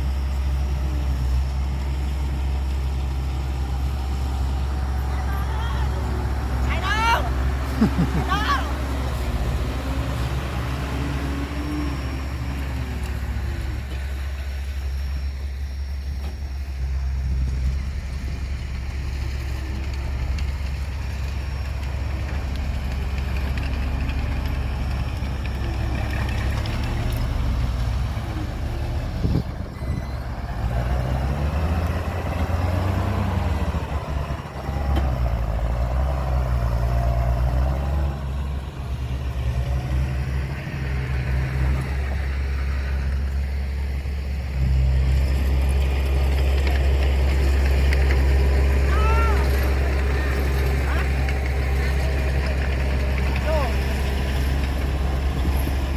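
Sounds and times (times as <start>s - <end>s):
heavy diesel engine rumbling: 0.0s - 55.9s.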